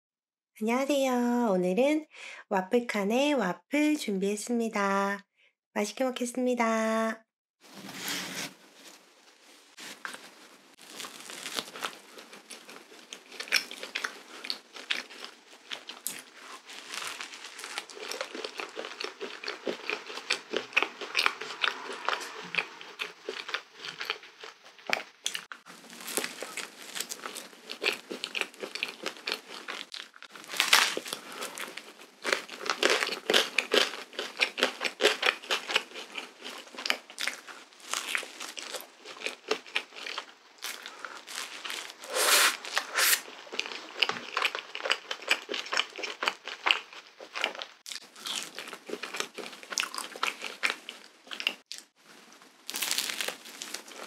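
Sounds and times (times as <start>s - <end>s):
crisp waffle crunching: 10.0s - 54.0s.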